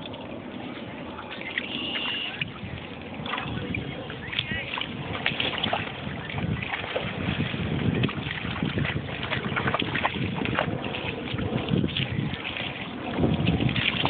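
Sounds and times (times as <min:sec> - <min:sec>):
small splashes: 0:00.0 - 0:14.0
water lapping: 0:00.0 - 0:14.0
wind buffeting microphone: 0:00.0 - 0:14.0.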